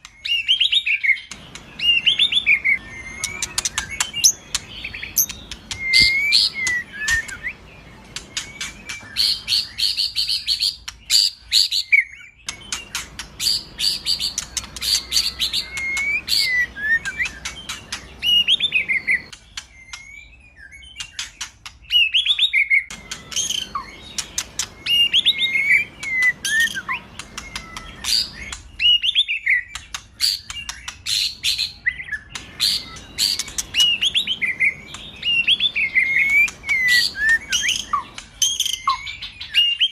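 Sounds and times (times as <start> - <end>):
bird singing with clicks and whistles: 0.0 - 39.9.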